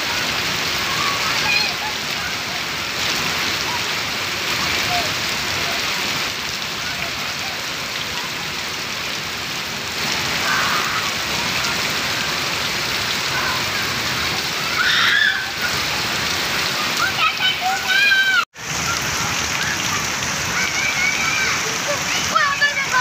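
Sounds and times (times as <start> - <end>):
heavy rain on wet ground: 0.0 - 23.0.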